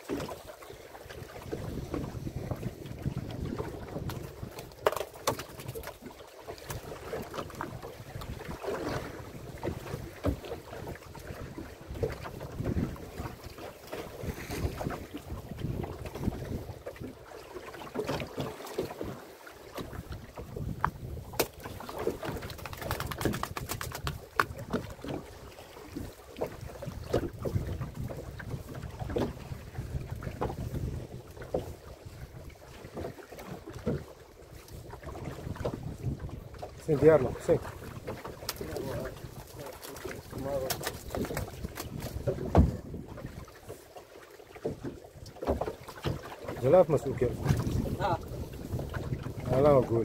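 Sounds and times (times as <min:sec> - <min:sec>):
knocks and clattering on boat: 0:00.0 - 0:50.0
wind buffeting the microphone: 0:01.1 - 0:04.8, 0:06.7 - 0:17.2, 0:19.8 - 0:32.6, 0:34.7 - 0:43.6, 0:45.6 - 0:50.0.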